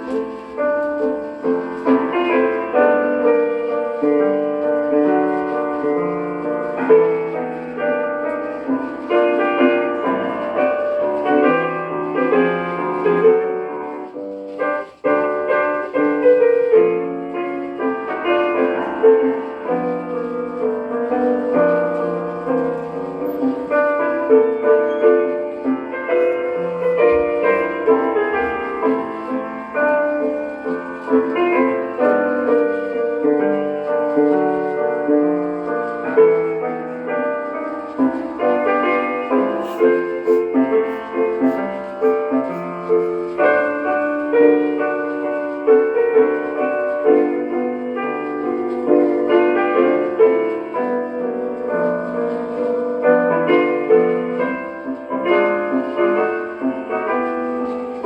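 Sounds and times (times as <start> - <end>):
old-time piano dance music: 0.0 - 58.0
record surface noise: 0.0 - 58.0.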